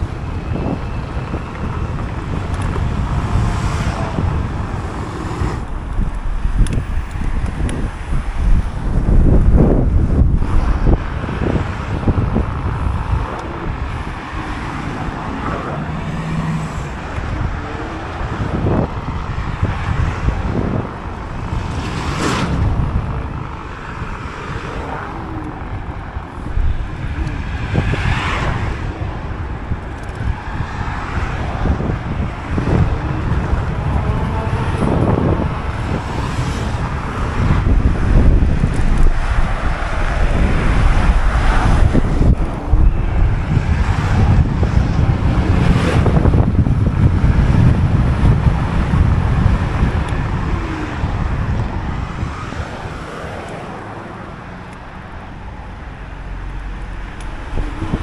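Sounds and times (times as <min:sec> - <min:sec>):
cars passing: 0:00.0 - 0:58.0
wind buffeting microphone: 0:00.0 - 0:58.0.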